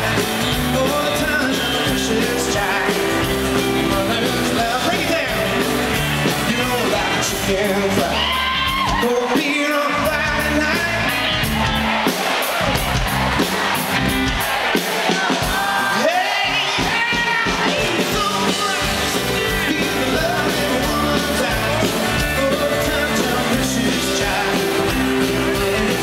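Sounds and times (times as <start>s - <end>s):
man singing: 0.0s - 11.2s, 15.1s - 26.0s
acoustic guitar: 0.0s - 12.0s, 16.9s - 26.0s
electric guitar: 0.0s - 14.5s, 15.5s - 26.0s
drums: 0.0s - 26.0s.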